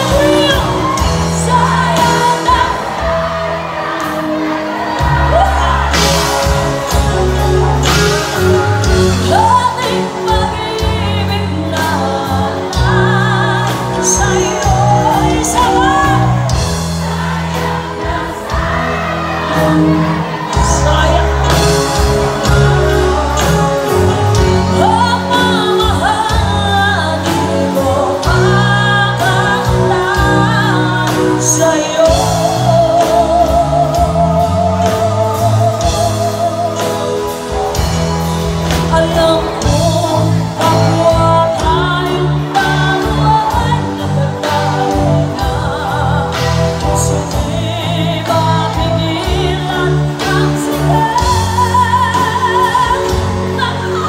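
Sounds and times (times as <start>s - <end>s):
backing singers: 0.0s - 54.0s
drums: 0.0s - 54.0s
electric guitar: 0.0s - 54.0s
woman singing lead: 0.0s - 54.0s.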